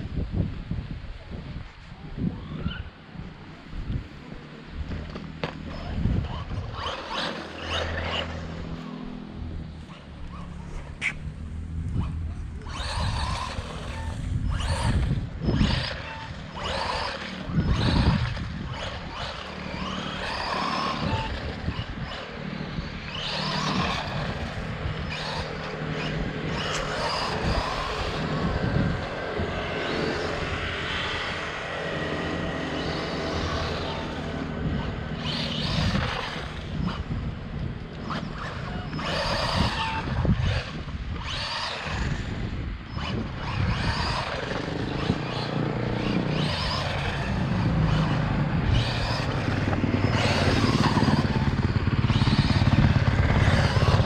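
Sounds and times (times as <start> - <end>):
rc truck electric motor whir: 1.3 - 54.0.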